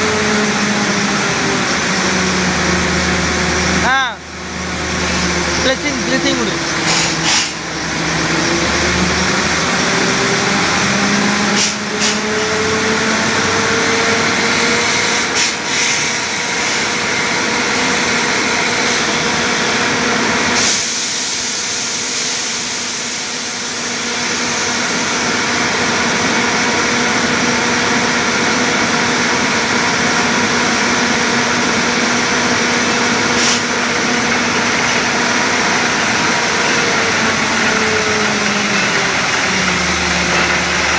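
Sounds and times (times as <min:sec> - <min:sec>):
drilling rig running: 0:00.0 - 0:40.9.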